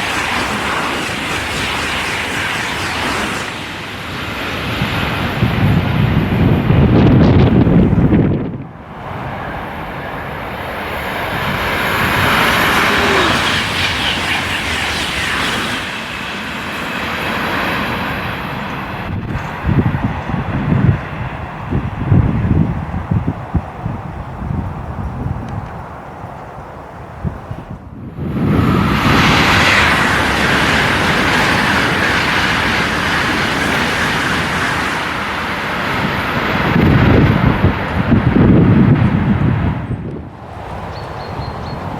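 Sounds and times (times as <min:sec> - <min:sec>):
high-speed train rushing past: 0:00.0 - 0:41.9
wind buffeting microphone: 0:00.0 - 0:41.9.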